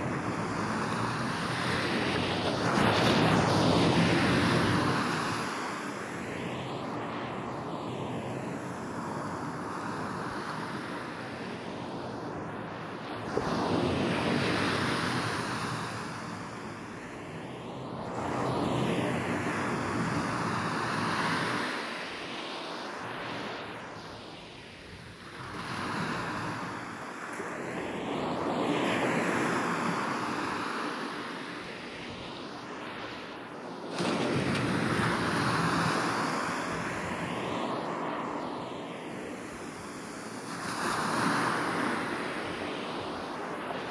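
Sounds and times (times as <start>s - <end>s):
waves breaking on sandy beach: 0.0s - 43.9s.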